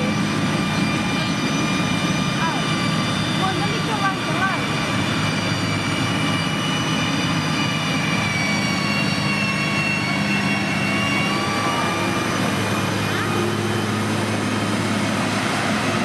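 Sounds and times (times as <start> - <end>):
diesel engine running: 0.0 - 16.0
high whine: 0.0 - 16.0.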